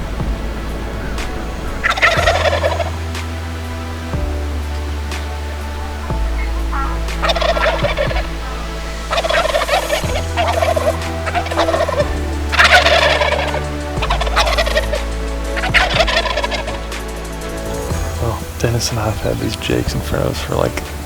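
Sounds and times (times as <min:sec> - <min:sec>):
wild turkey gobbling: 0:00.0 - 0:19.7.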